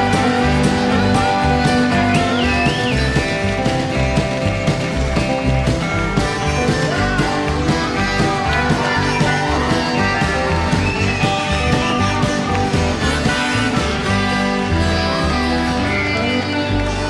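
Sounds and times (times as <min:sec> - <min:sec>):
live country band music: 0:00.0 - 0:17.0.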